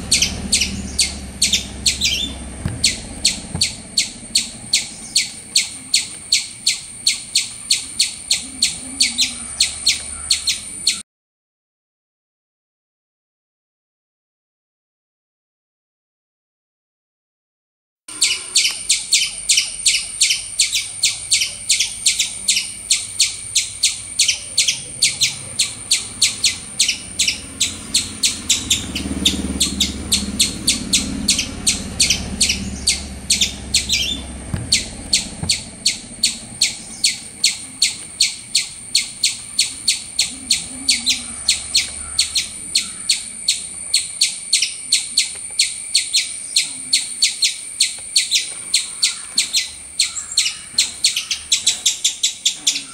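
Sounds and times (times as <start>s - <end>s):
squirrel chirping: 0.0s - 11.0s, 18.1s - 52.9s.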